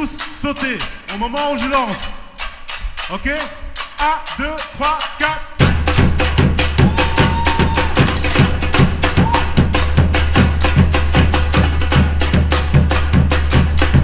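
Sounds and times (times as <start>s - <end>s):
percussion ensemble groove: 0.0s - 14.0s.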